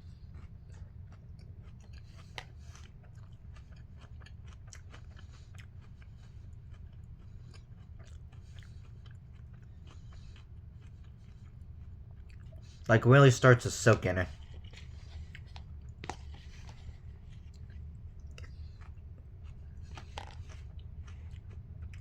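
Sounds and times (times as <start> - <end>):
low steady hum: 0.0 - 22.0
person chewing cereal crunches: 0.1 - 22.0.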